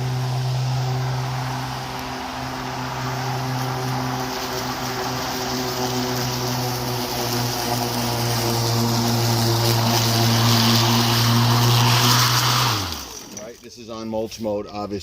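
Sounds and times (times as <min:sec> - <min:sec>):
electric lawn mower running: 0:00.0 - 0:13.6
rush of cut grass: 0:00.0 - 0:14.6.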